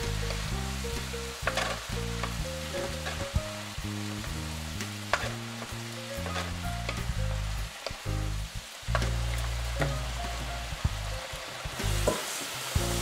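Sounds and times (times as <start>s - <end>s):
background music with bass line: 0.0s - 12.2s, 12.8s - 13.0s
food sizzling in a frying pan: 0.0s - 13.0s.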